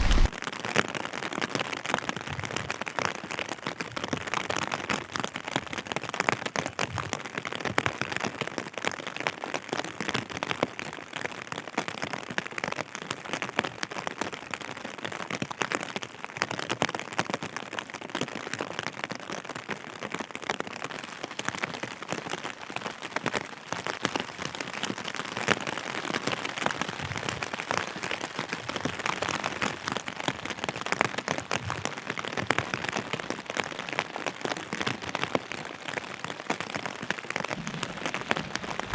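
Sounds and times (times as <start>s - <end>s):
raindrops hitting close by: 0.0s - 38.9s
steady rain falling: 0.0s - 38.9s.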